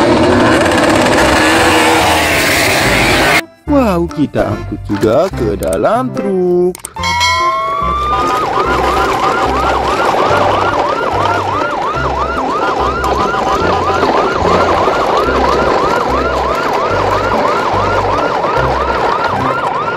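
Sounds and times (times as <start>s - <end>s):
electronic siren yelping: 0.0s - 3.4s, 7.0s - 19.9s.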